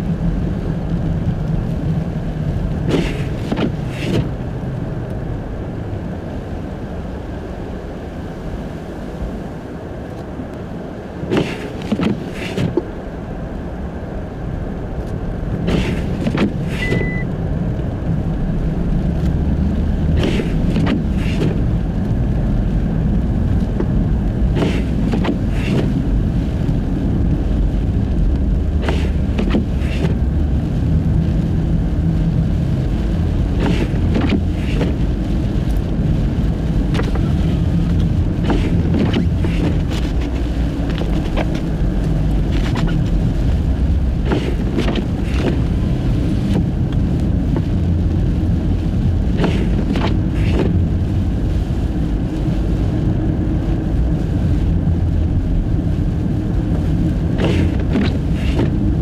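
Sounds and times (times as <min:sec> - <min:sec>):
car tyres rumbling on snow: 0:00.0 - 0:59.0.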